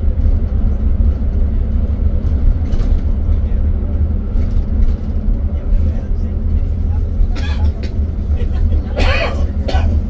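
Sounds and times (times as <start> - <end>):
vehicle road rumble: 0.0 - 10.0.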